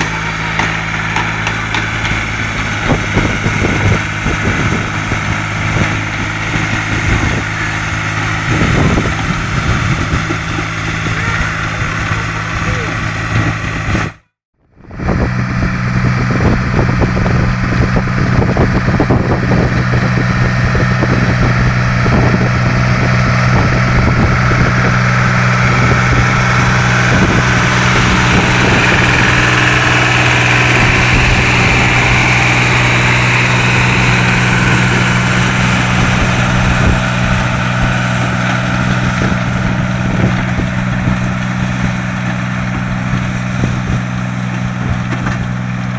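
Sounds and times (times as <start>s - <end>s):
wind buffeting microphone: 0.0s - 14.2s, 14.8s - 45.9s
tractor engine running: 0.0s - 45.9s.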